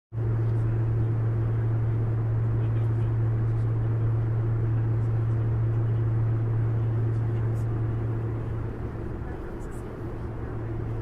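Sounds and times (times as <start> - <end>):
jet engine drone in flight: 0.2 - 11.0.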